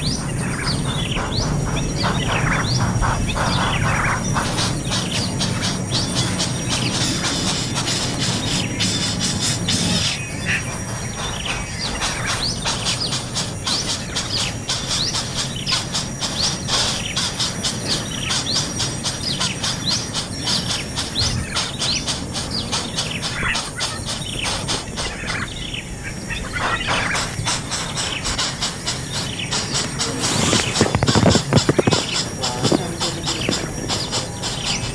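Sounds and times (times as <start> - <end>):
baby birds chirping rapidly: 0.0 - 34.9.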